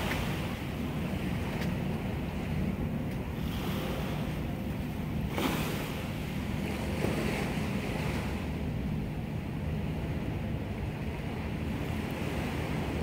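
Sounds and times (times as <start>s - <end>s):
sea wash: 0.0s - 13.0s
wind buffeting microphone: 0.0s - 13.0s.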